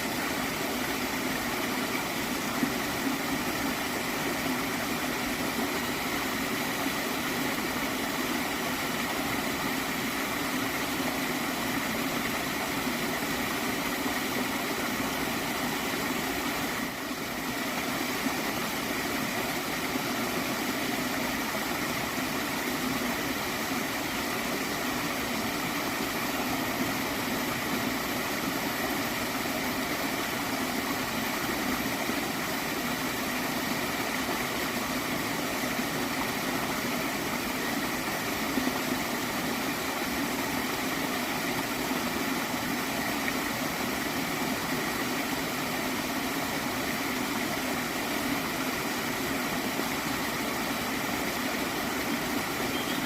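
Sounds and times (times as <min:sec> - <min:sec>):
stream flowing and gurgling: 0:00.0 - 0:53.0.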